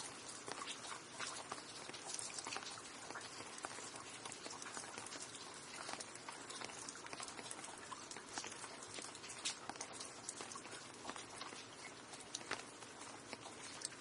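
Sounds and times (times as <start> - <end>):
close drips ticking: 0.0 - 14.0
steady rain hiss: 0.0 - 14.0.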